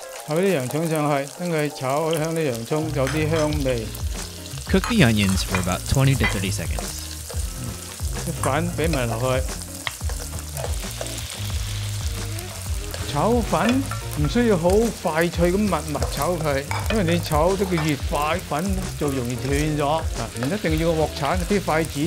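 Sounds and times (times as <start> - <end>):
onions sizzling in a wok: 0.0 - 22.0.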